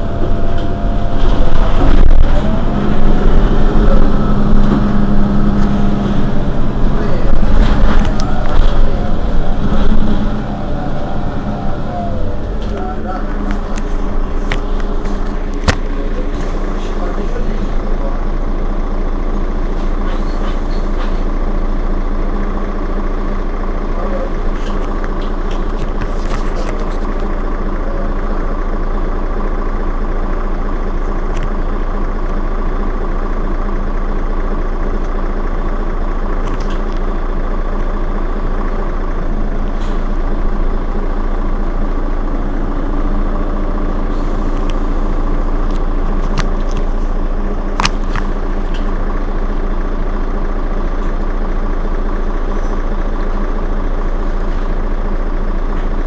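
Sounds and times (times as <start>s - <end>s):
bus engine idling: 0.0s - 56.0s.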